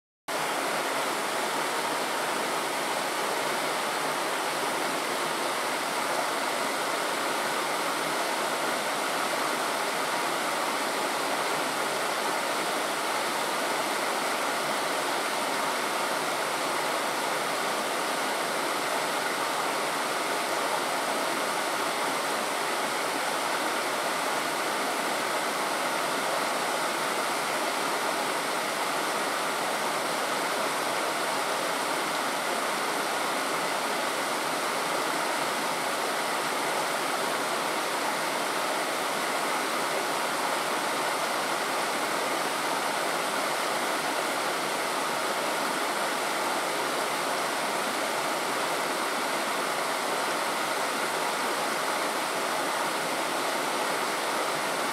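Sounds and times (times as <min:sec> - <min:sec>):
stream water rushing: 0:00.3 - 0:54.9.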